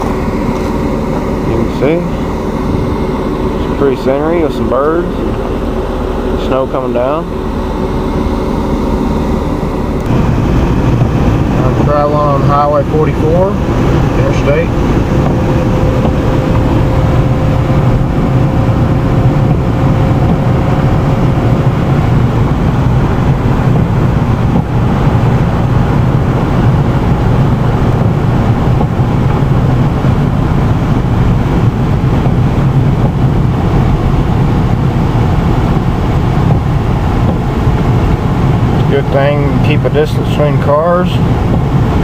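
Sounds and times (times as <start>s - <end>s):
car driving interior noise: 0.0s - 42.0s.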